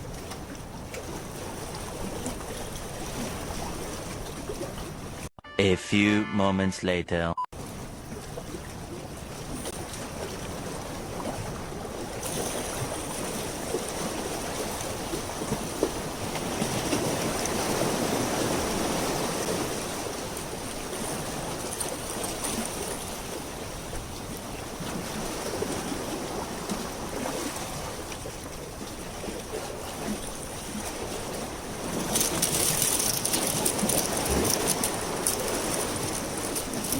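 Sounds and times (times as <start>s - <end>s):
seawater lapping at shore: 0.0s - 5.3s, 7.6s - 36.9s.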